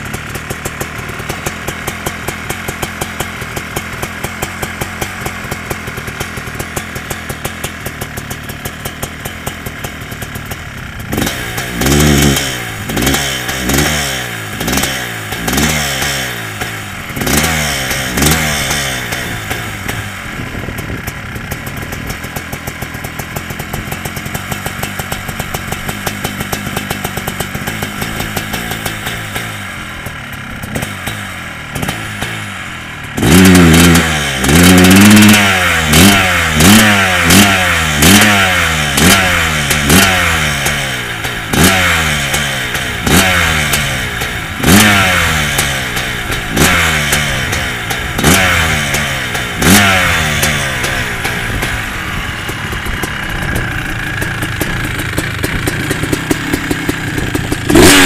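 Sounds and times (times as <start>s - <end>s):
dirt bike engine idling and revving: 0.0s - 58.0s.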